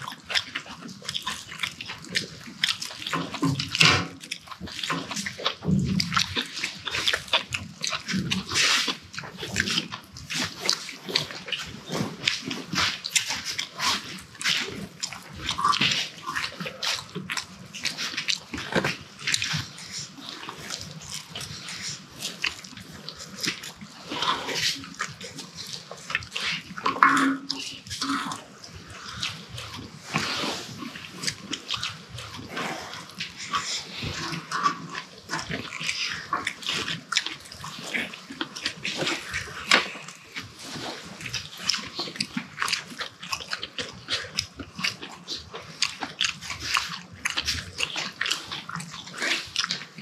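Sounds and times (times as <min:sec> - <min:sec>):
people chewing and lip smacking: 0:00.0 - 0:50.0.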